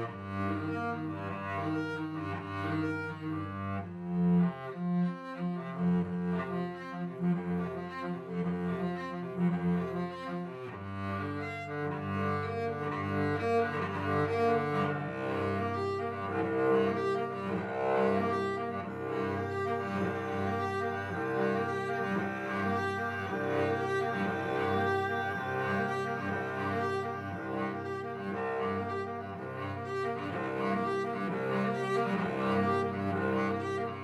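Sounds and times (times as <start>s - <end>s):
cello being bowed: 0.0s - 34.0s.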